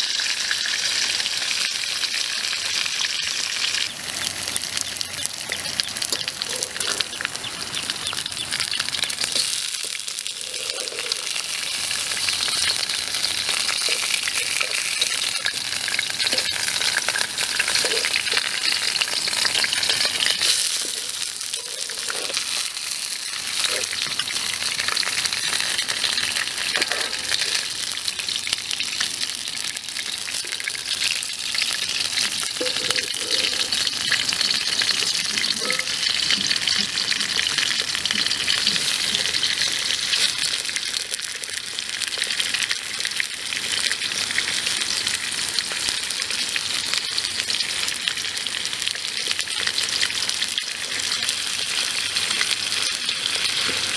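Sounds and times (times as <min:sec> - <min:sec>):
fish sizzling in frying: 0:00.0 - 0:53.9.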